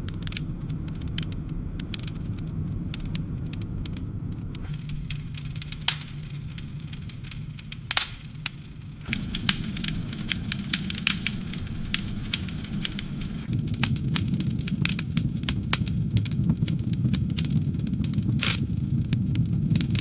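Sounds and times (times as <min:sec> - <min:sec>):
low rumble of flames: 0:00.0 - 0:20.0
wood crackling and popping: 0:00.0 - 0:20.0.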